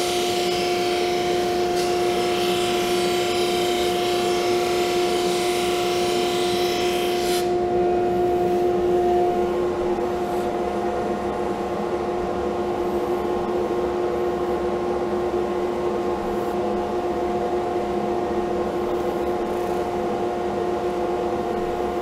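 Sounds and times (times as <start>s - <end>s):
drum sander motor humming: 0.0s - 22.0s.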